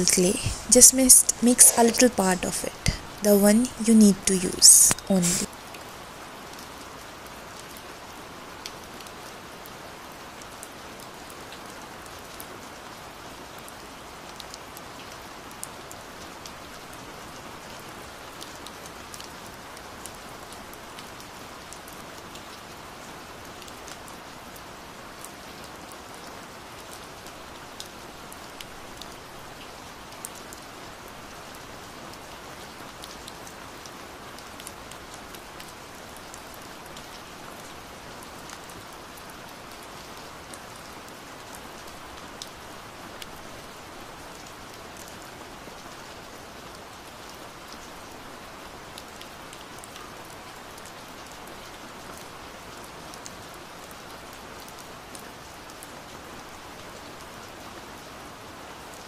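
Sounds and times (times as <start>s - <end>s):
sharp ticks of raindrops: 0.0s - 59.0s
steady rain hiss: 0.0s - 59.0s.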